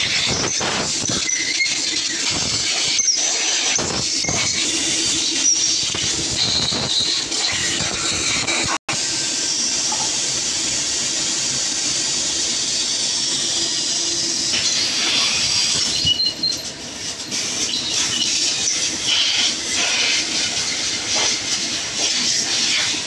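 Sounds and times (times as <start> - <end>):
hissing workshop background noise: 0.0 - 23.0.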